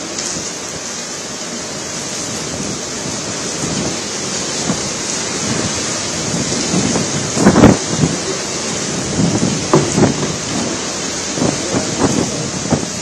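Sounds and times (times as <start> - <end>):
heavy rain pouring: 0.0 - 13.0
strong wind gusting through trees: 0.0 - 13.0.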